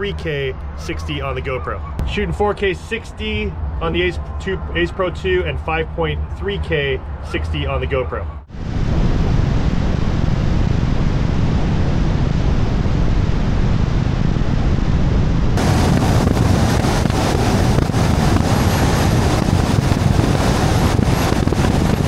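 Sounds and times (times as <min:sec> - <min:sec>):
low road rumble: 0:00.0 - 0:22.0
wind buffeting camera microphone: 0:00.0 - 0:22.0.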